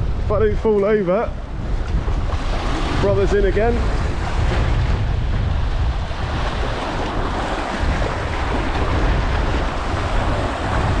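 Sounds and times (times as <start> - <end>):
surf washing around rocks: 0.0 - 11.0
wind buffeting microphone: 0.0 - 11.0.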